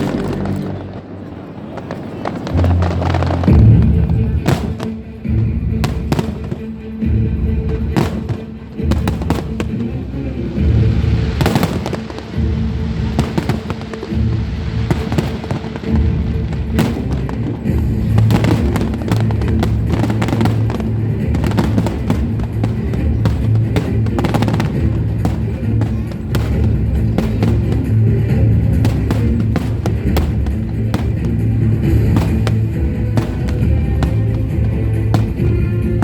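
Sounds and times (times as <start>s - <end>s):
fireworks bangs and crackling: 0.0s - 36.0s
loud show music: 2.4s - 36.0s.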